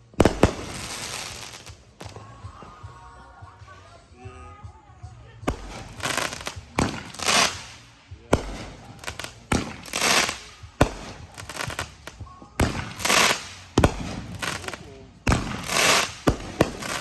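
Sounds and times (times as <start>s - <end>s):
fireworks bangs: 0.0s - 4.0s, 5.4s - 17.0s
crackling hiss of fireworks: 0.0s - 17.0s.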